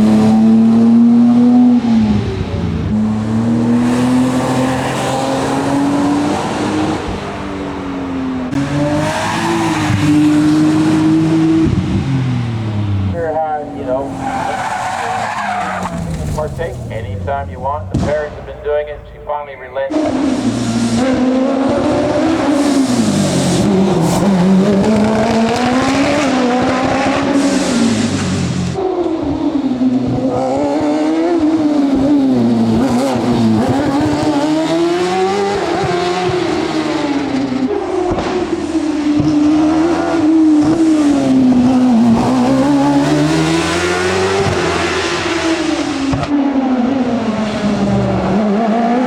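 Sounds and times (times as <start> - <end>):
racing car engine accelerating: 0.0 - 19.3, 19.9 - 49.0.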